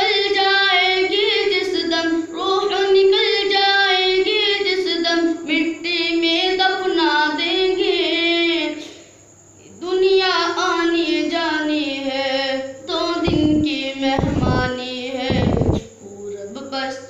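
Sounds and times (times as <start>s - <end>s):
boy singing unaccompanied: 0.0s - 8.9s, 9.6s - 17.0s.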